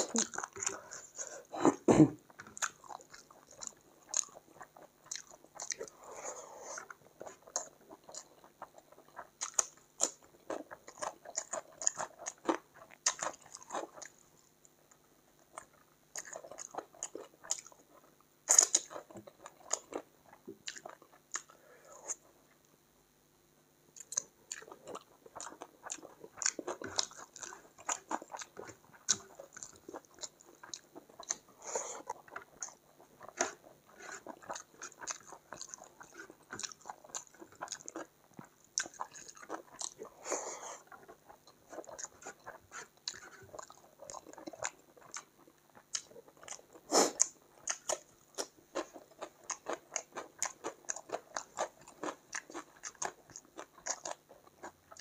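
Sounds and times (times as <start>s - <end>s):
chewing and wet mouth sounds: 0.0s - 1.4s, 2.3s - 22.7s, 23.9s - 55.0s.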